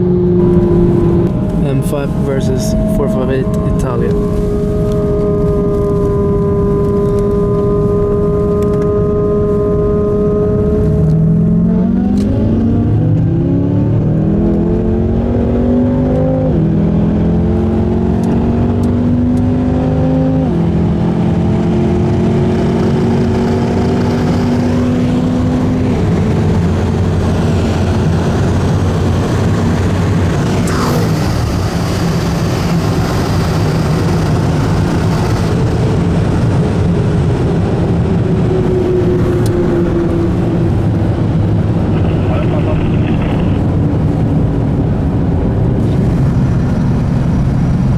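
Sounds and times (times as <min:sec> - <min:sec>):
sports car engines accelerating: 0:00.0 - 0:47.9
wind and road rush: 0:00.0 - 0:47.9.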